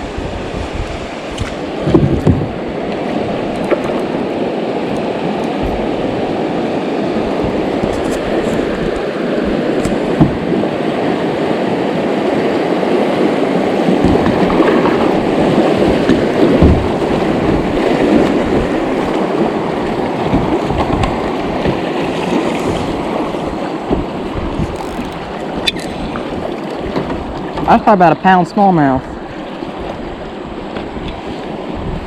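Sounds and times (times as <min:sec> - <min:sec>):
river rapids rushing: 0:00.0 - 0:30.7
kayak knock: 0:01.3 - 0:11.2, 0:12.2 - 0:32.0.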